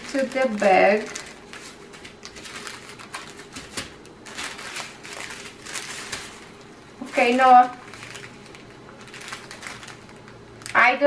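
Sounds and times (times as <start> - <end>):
plastic bags of beads crinkling: 0.0 - 10.9.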